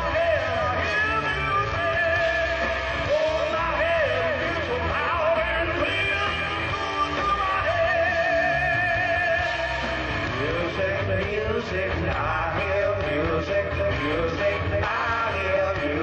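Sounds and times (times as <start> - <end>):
man singing into a microphone: 0.0 - 16.0
rock band playing: 0.0 - 16.0.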